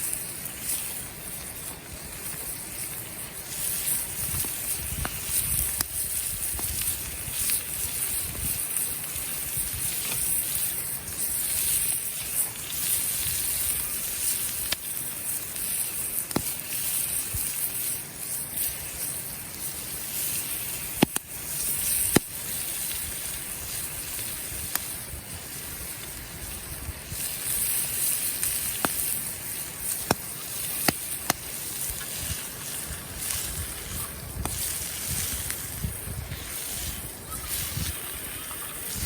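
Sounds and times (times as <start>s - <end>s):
campfire crackling and popping: 0.0s - 39.0s
fire hissing: 0.0s - 39.0s.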